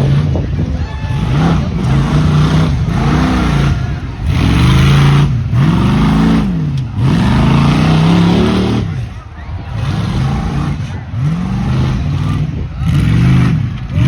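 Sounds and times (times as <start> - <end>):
pickup engine revving hard: 0.0 - 14.0.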